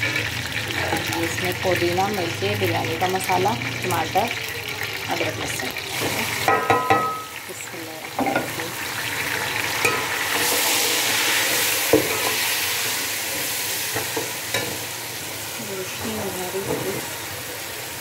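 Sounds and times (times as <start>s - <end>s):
food sizzling in pot: 0.0s - 18.0s.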